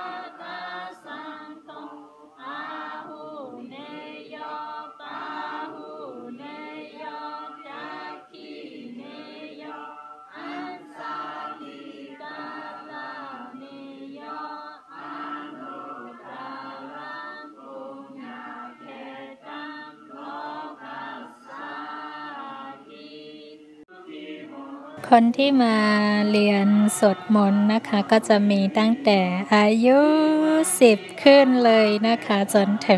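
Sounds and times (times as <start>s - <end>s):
group chanting prayers: 0.0s - 32.9s.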